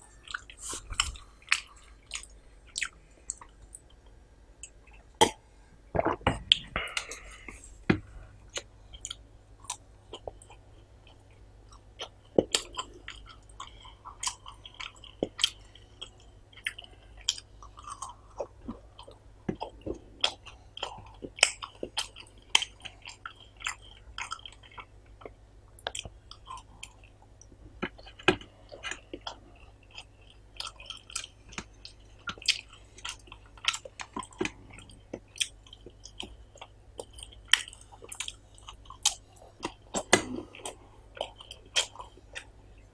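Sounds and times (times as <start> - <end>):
person chewing and mouth smacking: 0.1 - 5.4, 6.0 - 42.9.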